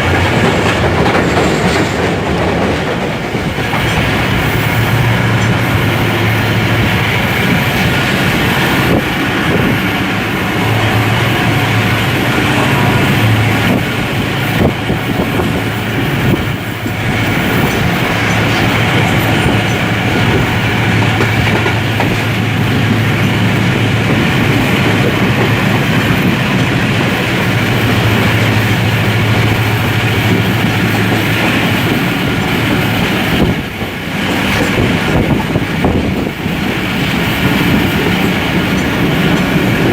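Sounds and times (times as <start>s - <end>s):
train rumbling on track: 0.0s - 39.9s
wheels clicking over rail joints: 0.0s - 39.9s.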